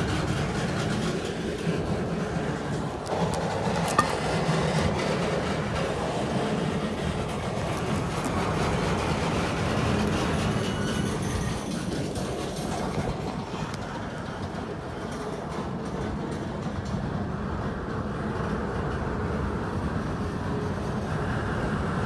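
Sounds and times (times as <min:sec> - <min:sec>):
freight train wheels clacking: 0:00.0 - 0:22.0.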